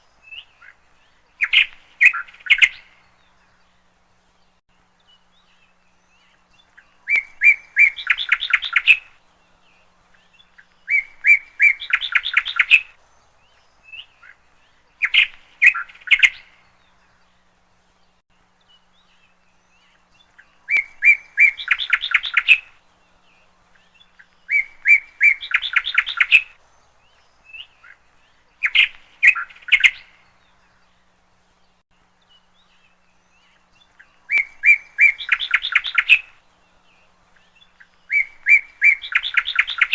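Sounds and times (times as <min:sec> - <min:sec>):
songbird singing with trill: 0:00.0 - 0:39.9.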